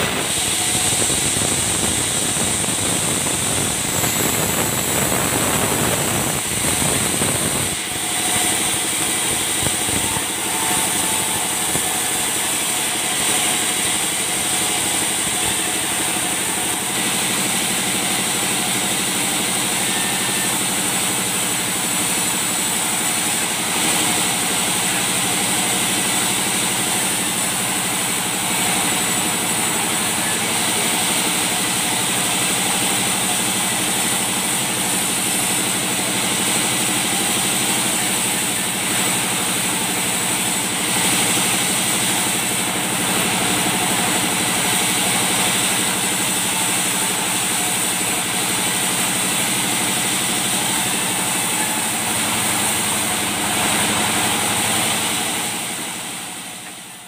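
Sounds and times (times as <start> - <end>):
band saw machinery drone: 0.0 - 57.0.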